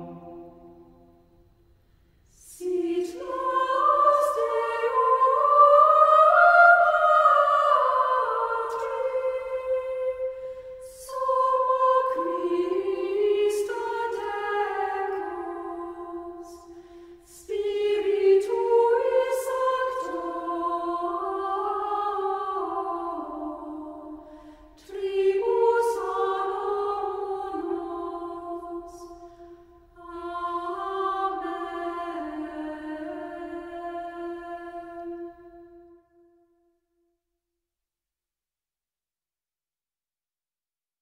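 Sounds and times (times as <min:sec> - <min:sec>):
choir singing: 0:00.0 - 0:01.2, 0:02.3 - 0:36.3.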